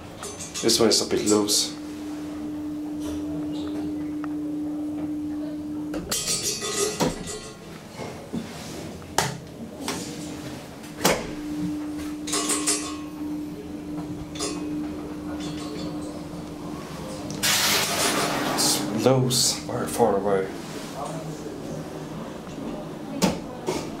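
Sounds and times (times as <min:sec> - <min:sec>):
elevator hum: 0:00.0 - 0:24.0.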